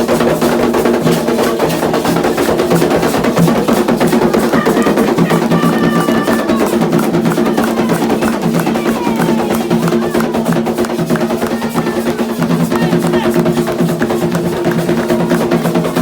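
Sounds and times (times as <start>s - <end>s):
hand drums playing fast rhythm: 0.0s - 16.0s.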